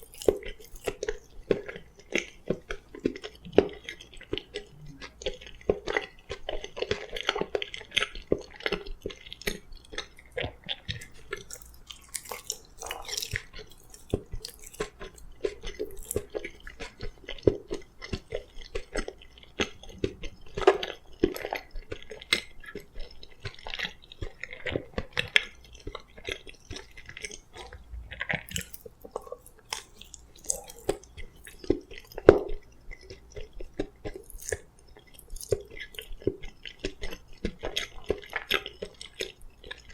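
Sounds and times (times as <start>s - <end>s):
chewing soft food: 0.0s - 39.9s.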